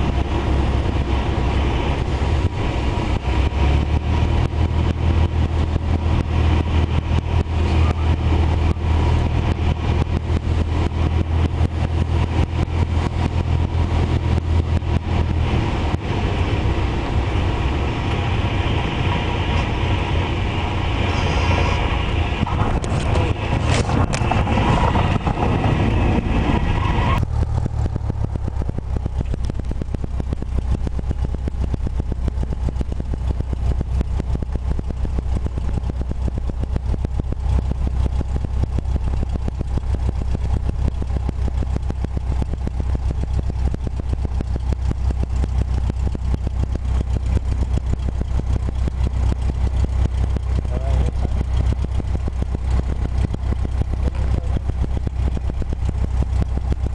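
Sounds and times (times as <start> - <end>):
aircraft engine droning: 0.0 - 56.9.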